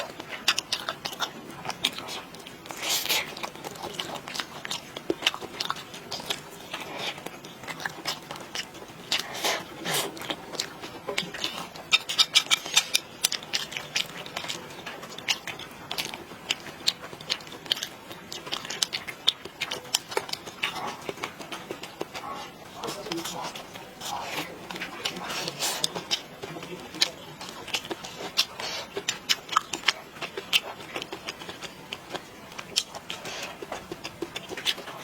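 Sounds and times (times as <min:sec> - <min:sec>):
person chewing and biting: 0:00.0 - 0:35.0.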